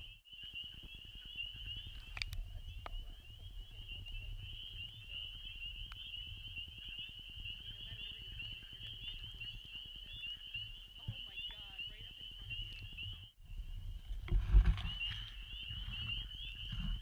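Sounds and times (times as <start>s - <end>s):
chorus of high-pitched frog peeps: 0.0s - 14.1s.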